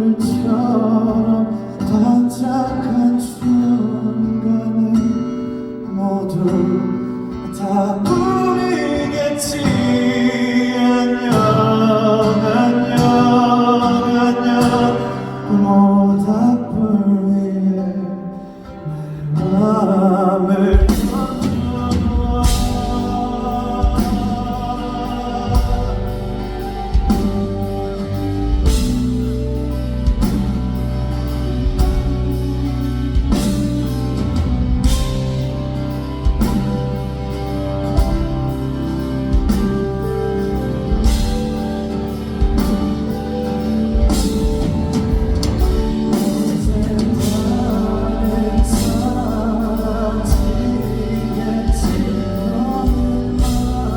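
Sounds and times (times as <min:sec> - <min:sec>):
person singing: 0:00.0 - 0:53.9
live band playing: 0:07.2 - 0:16.9, 0:19.2 - 0:53.9.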